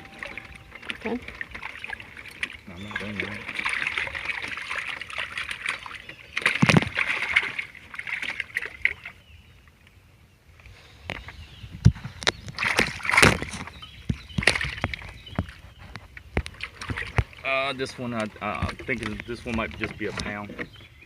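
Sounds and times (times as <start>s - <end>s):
water sloshing and splashing: 0.0s - 9.8s, 11.9s - 21.0s.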